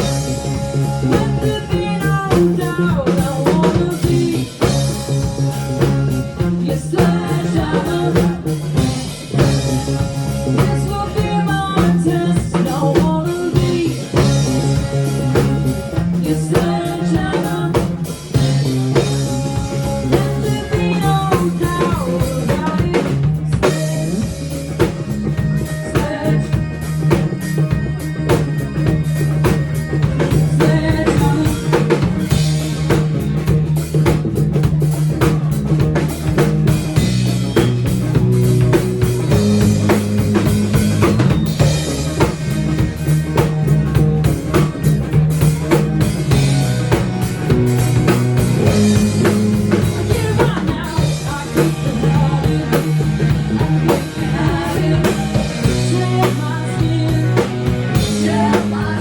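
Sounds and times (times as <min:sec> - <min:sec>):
bass notes: 0:00.0 - 0:59.0
drum kit beat: 0:00.0 - 0:59.0.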